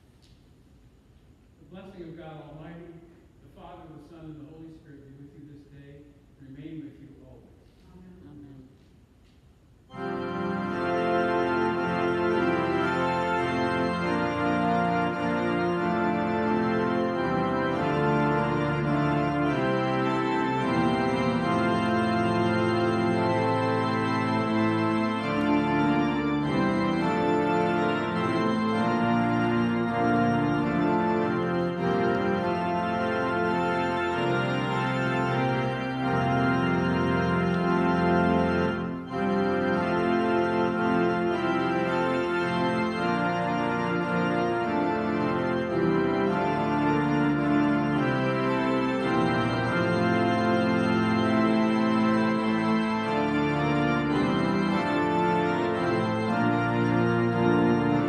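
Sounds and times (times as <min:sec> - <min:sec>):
organ playing held chords: 0:01.6 - 0:08.7, 0:09.8 - 0:58.0.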